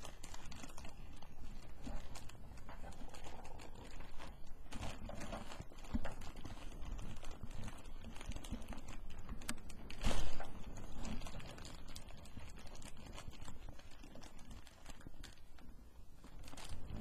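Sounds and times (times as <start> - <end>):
plastic wrapper crinkling: 0.0 - 17.0.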